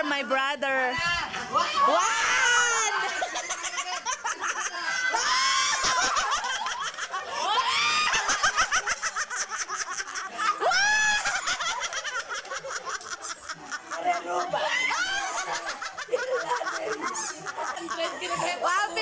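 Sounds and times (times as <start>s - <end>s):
people laughing and shrieking: 0.7s - 19.0s.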